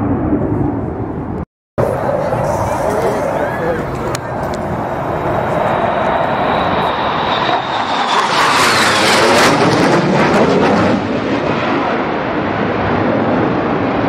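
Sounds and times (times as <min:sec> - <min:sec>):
jet high whine: 0:00.0 - 0:14.0
jet roar overhead: 0:00.0 - 0:14.0.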